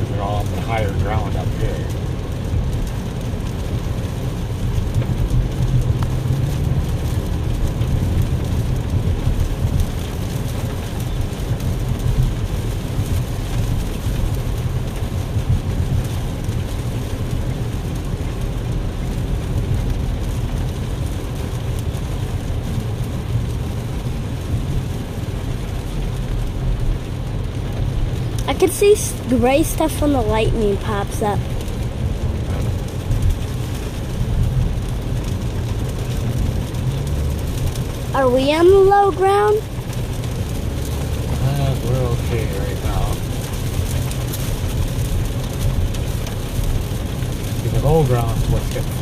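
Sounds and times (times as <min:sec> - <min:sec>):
car rumble from inside cabin: 0:00.0 - 0:49.0
rain falling on car: 0:00.0 - 0:49.0.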